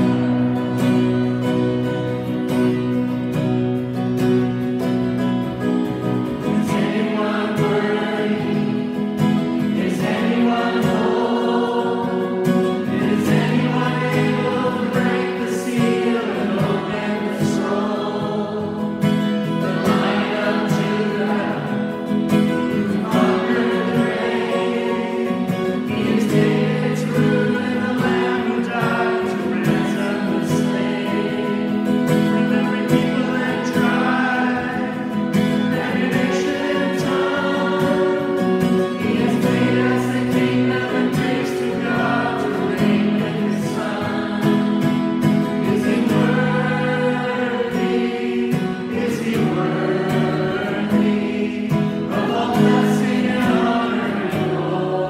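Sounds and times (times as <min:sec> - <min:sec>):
congregation singing: 0:00.0 - 0:55.0
strummed acoustic guitar: 0:00.0 - 0:55.0
man and woman singing: 0:06.3 - 0:55.0.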